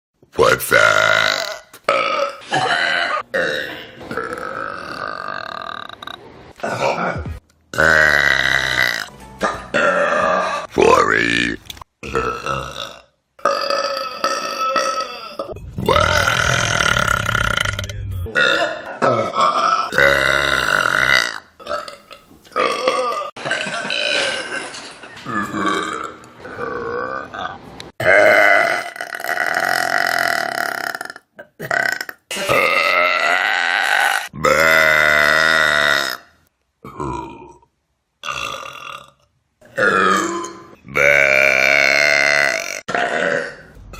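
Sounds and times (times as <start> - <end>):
person burping: 0.8 - 24.6, 25.3 - 43.9.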